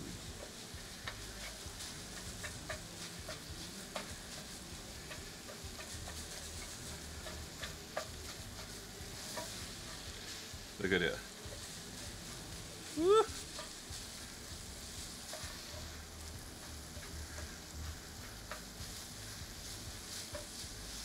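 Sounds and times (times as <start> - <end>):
chicken sizzling in a skillet: 0.0 - 21.0
spatula tapping a pan: 0.0 - 21.0.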